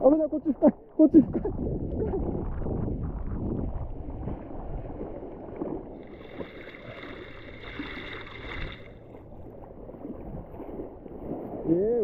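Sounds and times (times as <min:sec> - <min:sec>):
wind buffeting microphone: 0:00.4 - 0:12.0
rough sea water sloshing: 0:00.7 - 0:12.0.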